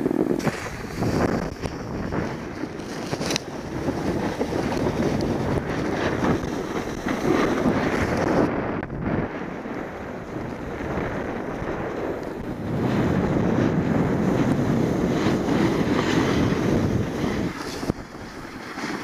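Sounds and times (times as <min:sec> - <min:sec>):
snowboard scraping over snow: 0:00.0 - 0:19.0
wind on microphone: 0:00.0 - 0:19.0.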